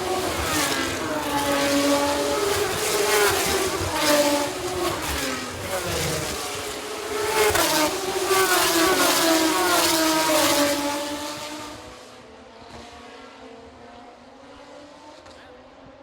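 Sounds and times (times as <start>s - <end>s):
racing cars accelerating past: 0.0s - 15.9s.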